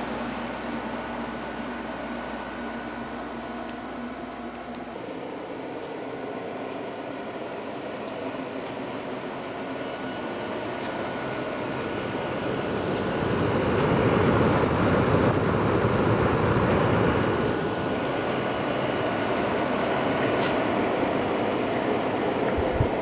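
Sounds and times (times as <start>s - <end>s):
air conditioner fan blowing: 0.0s - 23.0s.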